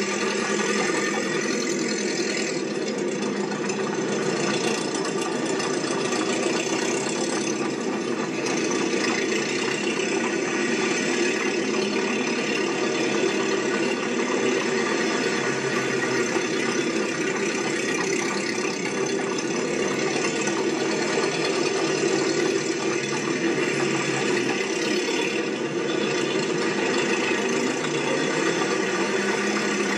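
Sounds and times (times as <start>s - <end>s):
mechanical running noise with rattle: 0.0s - 29.9s.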